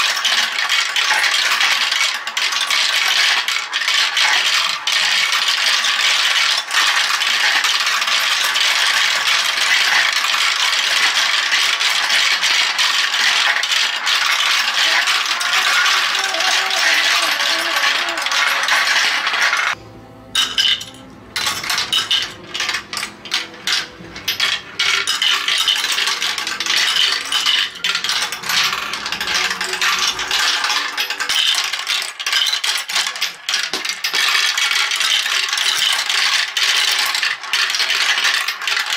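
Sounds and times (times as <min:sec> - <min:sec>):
marbles clattering down plastic chutes: 0:00.0 - 0:19.8, 0:20.4 - 0:38.9.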